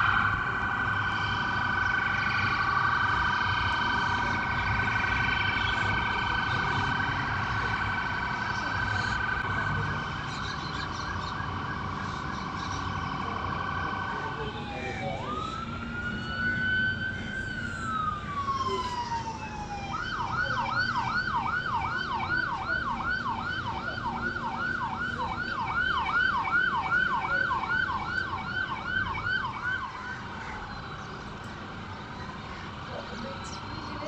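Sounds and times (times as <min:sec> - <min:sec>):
police boat siren: 0:00.0 - 0:34.0.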